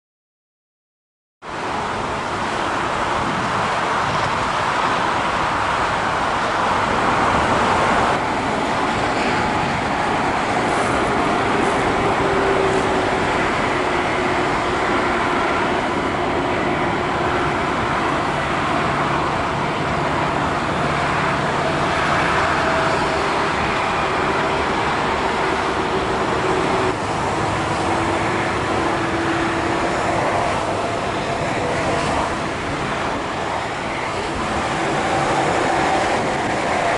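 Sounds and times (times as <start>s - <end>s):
aircraft tug engine: 1.4s - 36.9s
airport engine noise: 1.4s - 36.9s.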